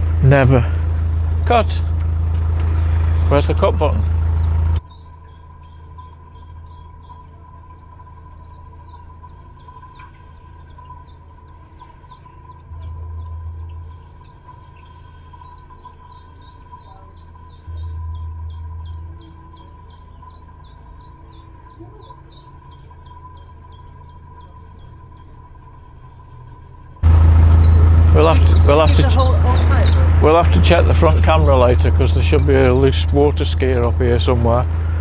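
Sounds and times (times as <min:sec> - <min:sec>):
small birds chirping: 0:00.0 - 0:26.3, 0:27.0 - 0:35.0
boat engine humming: 0:00.0 - 0:35.0
low rumbles: 0:00.0 - 0:35.0.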